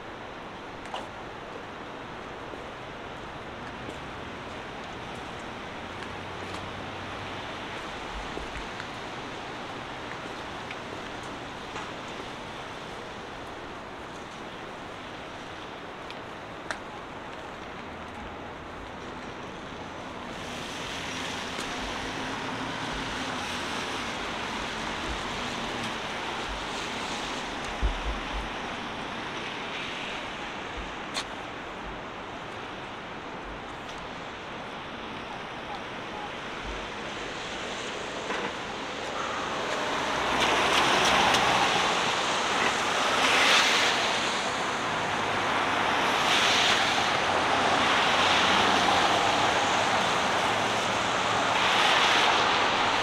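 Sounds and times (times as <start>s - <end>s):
city street traffic: 0.0s - 53.0s.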